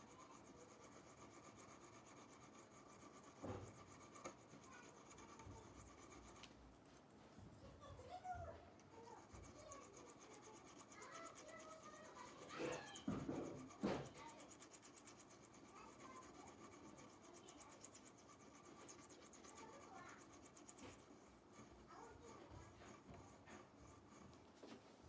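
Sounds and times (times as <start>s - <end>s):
faint scratching: 0.0s - 25.0s.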